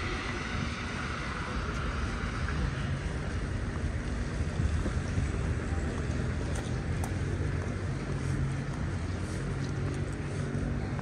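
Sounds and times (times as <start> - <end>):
traffic rumble: 0.0 - 11.0
tyres hissing on wet road: 0.0 - 11.0.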